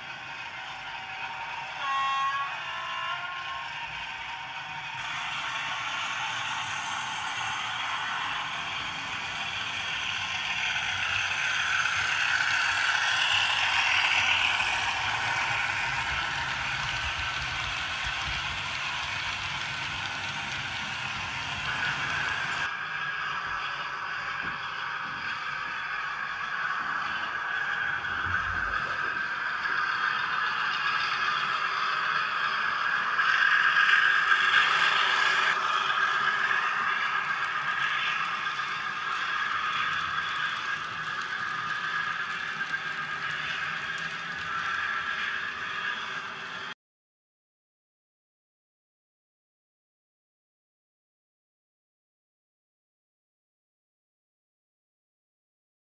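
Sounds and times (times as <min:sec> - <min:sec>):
model train clattering on track: 0:00.0 - 0:46.7.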